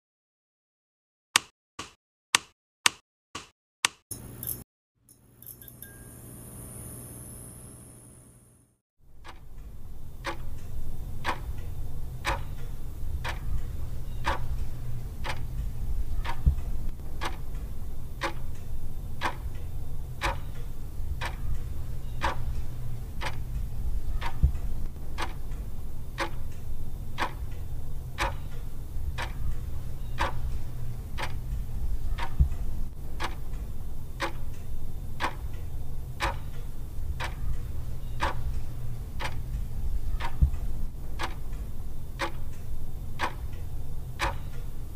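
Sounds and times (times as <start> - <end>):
clock ticking: 1.4 - 4.0, 9.2 - 44.9
low hum: 4.1 - 44.9.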